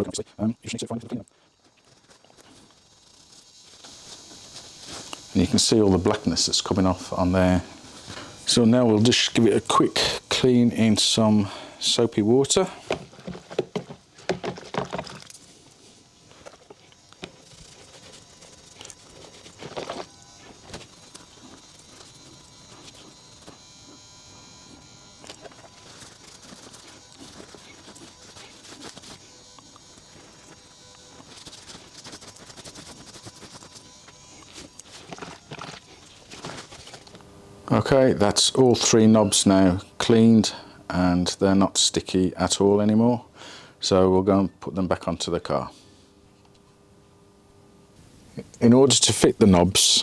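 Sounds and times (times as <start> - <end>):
fluorescent light electrical buzz: 0.0 - 50.0.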